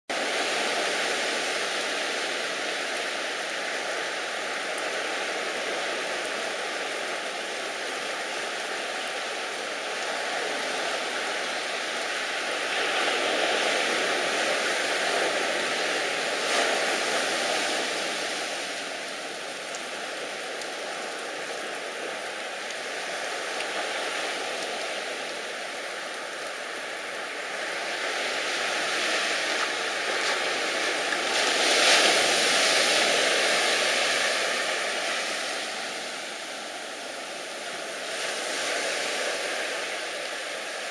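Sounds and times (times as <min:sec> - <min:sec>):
rushing water: 0:00.1 - 0:40.9.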